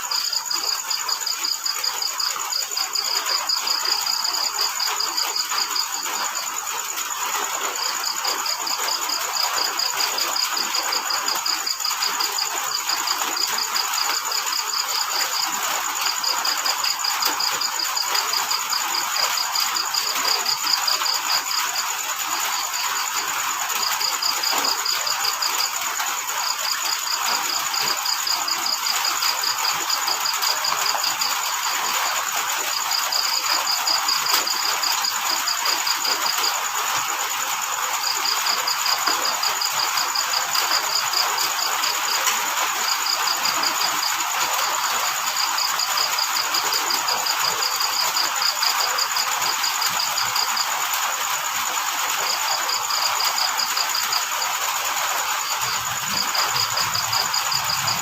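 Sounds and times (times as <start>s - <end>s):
crickets chirping: 0.0s - 58.0s
high-pitched insect tone: 0.0s - 58.0s
rain falling: 0.0s - 58.0s.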